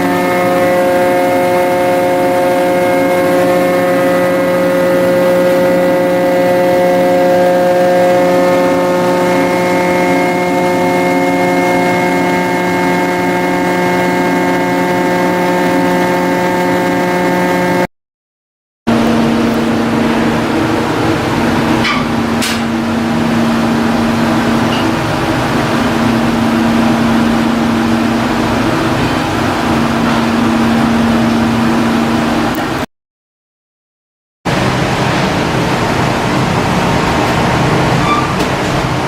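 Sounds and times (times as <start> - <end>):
ship engine droning: 0.0 - 17.9, 18.9 - 32.9, 34.5 - 39.0.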